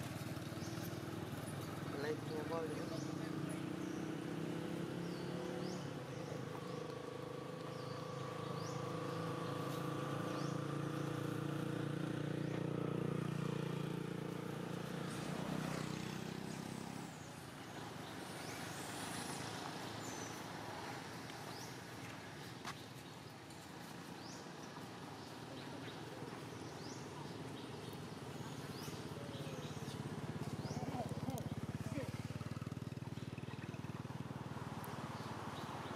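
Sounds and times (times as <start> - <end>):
vehicle engine humming: 0.0 - 35.9.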